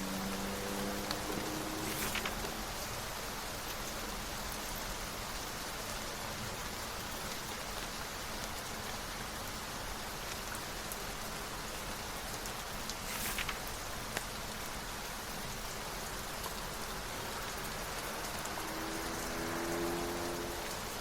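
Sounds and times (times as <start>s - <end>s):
steady rain patter: 0.0s - 21.0s
faint raindrop ticks: 0.1s - 21.0s.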